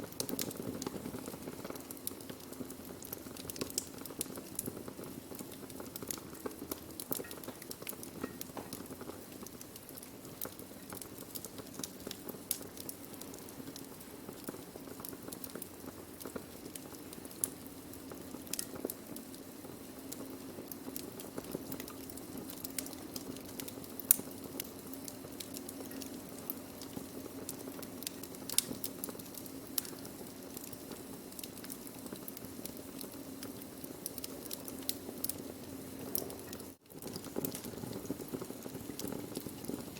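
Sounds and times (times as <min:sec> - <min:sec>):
burning wood crackling: 0:00.0 - 0:39.9.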